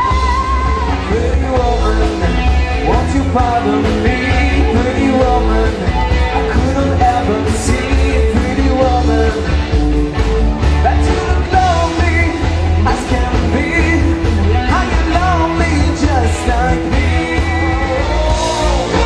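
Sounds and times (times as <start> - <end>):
drums: 0.0 - 19.0
electric guitar: 0.0 - 19.0
heavy bass line: 0.0 - 19.0
lead vocals: 0.0 - 19.0.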